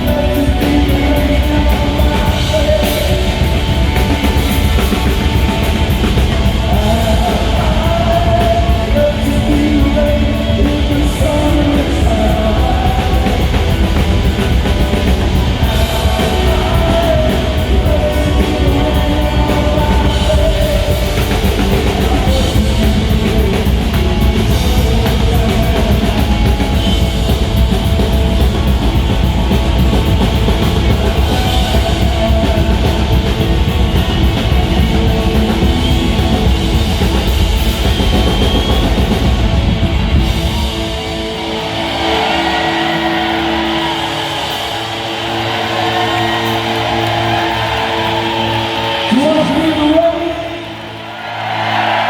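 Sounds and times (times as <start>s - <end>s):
rock band playing: 0.0s - 52.0s.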